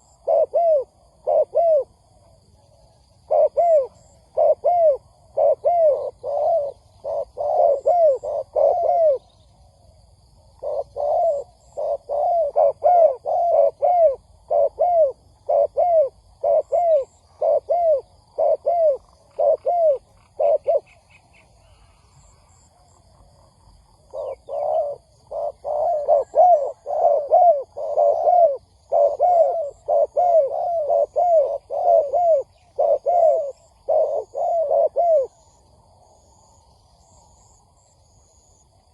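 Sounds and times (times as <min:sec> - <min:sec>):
doves cooing: 0:00.0 - 0:09.3, 0:10.6 - 0:22.6, 0:24.0 - 0:35.6.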